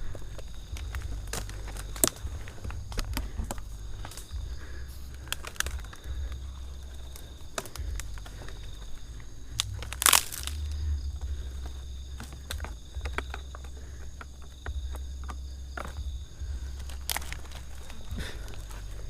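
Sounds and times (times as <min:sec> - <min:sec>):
dry vegetation rustling and crunching: 0:00.0 - 0:19.0
microphone handling rumble: 0:00.0 - 0:19.0.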